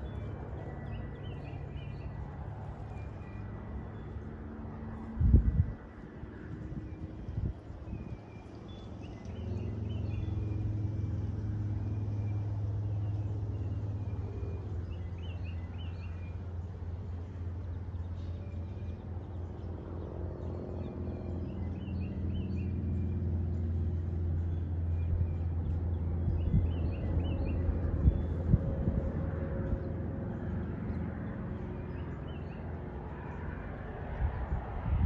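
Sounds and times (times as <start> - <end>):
low engine rumble: 0.0 - 35.0.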